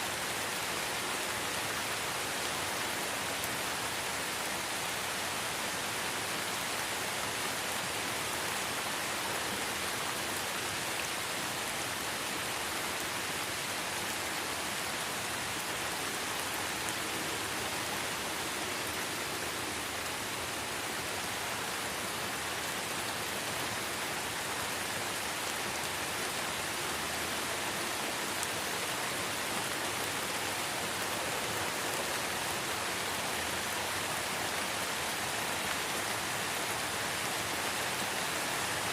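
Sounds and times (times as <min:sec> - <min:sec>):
light rain hissing: 0:00.0 - 0:38.9.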